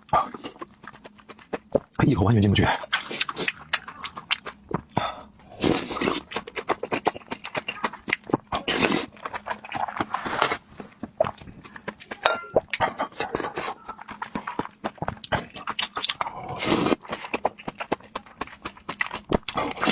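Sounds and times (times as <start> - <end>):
person chewing and smacking: 0.0 - 19.9.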